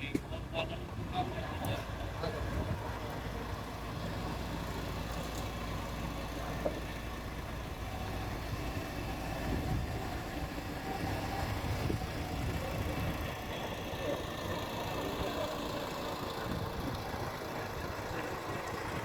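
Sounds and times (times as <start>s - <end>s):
engine running at low revs: 0.1s - 19.0s.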